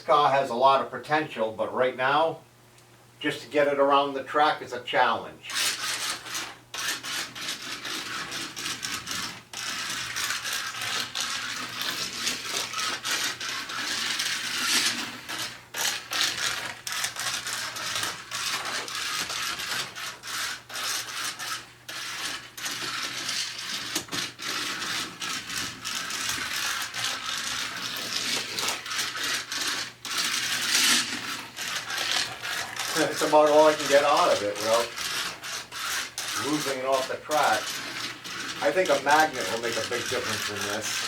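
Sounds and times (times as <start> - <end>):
slot car wheels rattling on track: 5.5 - 41.0
small electric motor whirring: 5.5 - 41.0.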